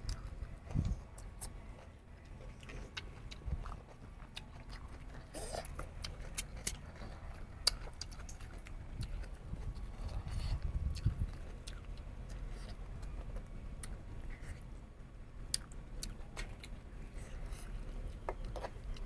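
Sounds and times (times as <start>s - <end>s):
person chewing meat: 0.0s - 19.0s.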